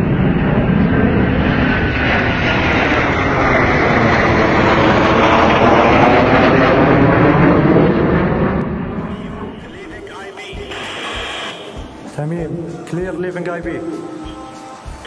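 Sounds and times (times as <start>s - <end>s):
military jets roaring overhead: 0.0s - 12.6s.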